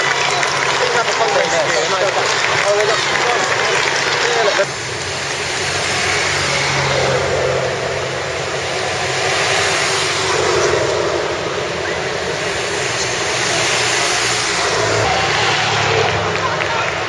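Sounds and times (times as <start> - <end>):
motor vehicle engine drone: 0.0 - 17.0.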